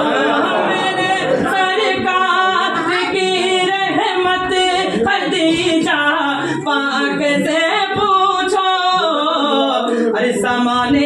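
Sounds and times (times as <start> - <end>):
man singing unaccompanied: 0.8 - 11.0.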